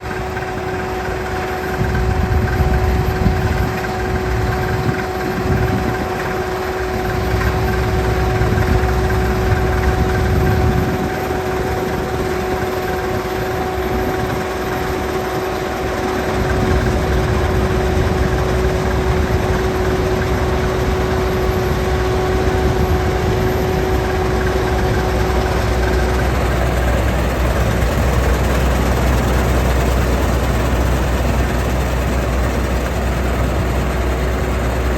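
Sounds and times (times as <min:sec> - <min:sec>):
combine harvester engine rumble: 0:00.0 - 0:34.9
constant machine whine: 0:00.0 - 0:34.9.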